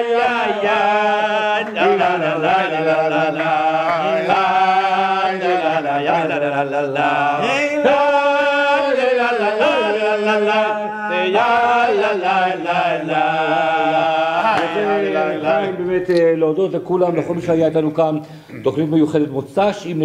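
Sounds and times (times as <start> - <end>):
men singing religious chant: 0.0 - 16.4.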